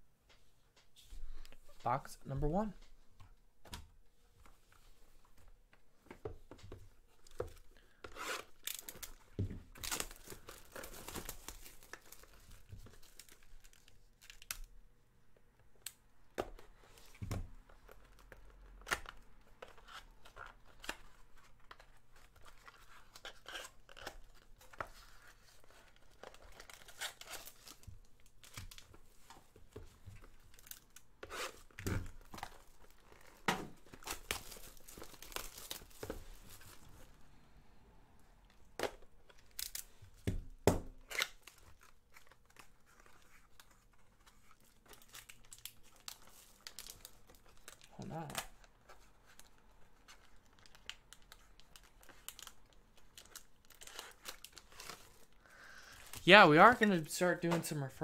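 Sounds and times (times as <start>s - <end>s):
plastic wrap tearing and crinkling: 7.1s - 14.8s, 16.9s - 37.1s, 38.7s - 57.7s.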